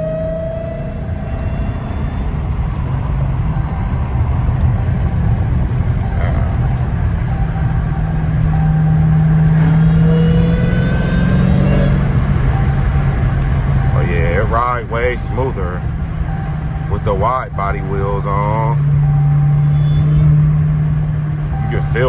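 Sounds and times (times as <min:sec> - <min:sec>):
car engine drone: 0:00.0 - 0:22.0
tyre and road noise: 0:00.0 - 0:22.0.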